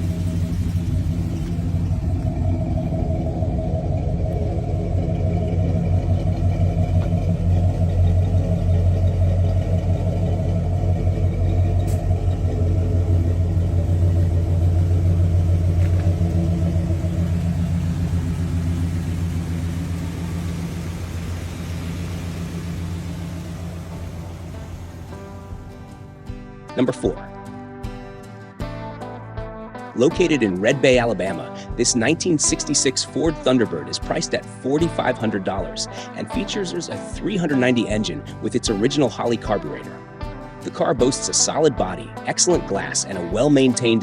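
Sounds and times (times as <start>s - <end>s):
car engine rumbling: 0.0s - 29.0s, 30.1s - 44.0s.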